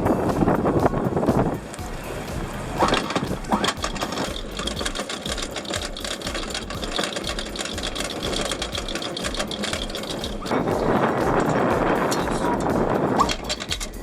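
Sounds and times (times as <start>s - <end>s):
outboard engine clattering: 0.0s - 14.0s.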